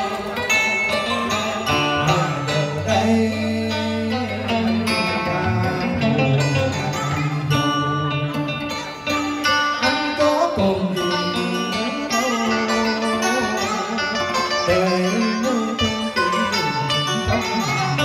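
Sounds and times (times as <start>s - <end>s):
person singing: 0.0s - 18.0s
plucked strings melody: 0.0s - 18.0s.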